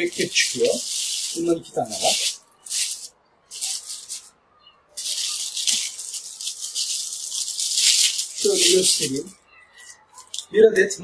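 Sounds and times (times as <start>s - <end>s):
plastic packaging rustling: 0.0s - 4.4s, 5.0s - 10.5s.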